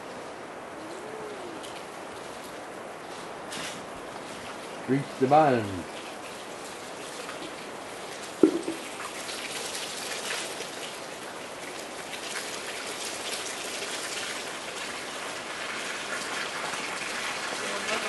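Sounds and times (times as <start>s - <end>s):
water rushing and splashing: 0.0s - 18.0s.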